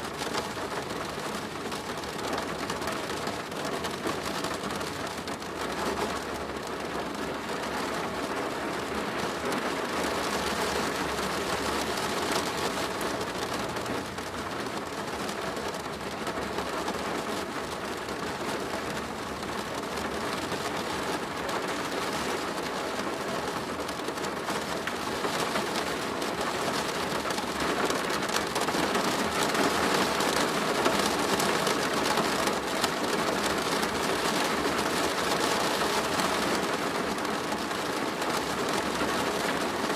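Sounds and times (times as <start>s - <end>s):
rain pattering on a plastic roof: 0.0s - 39.9s.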